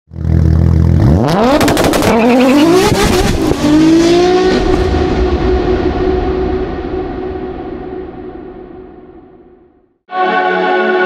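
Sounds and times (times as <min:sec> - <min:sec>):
car engine revving: 0:00.1 - 0:09.2.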